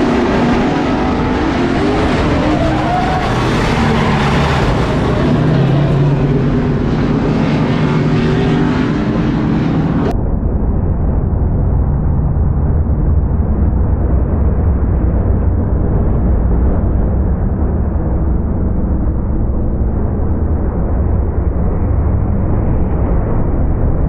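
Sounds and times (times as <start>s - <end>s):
slowed race car engine rumble: 0.0s - 24.0s.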